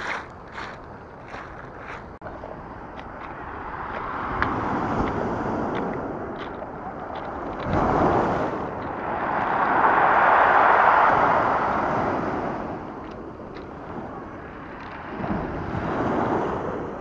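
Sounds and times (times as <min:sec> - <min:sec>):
waves breaking on pebble beach: 0:00.0 - 0:02.2, 0:02.9 - 0:17.0.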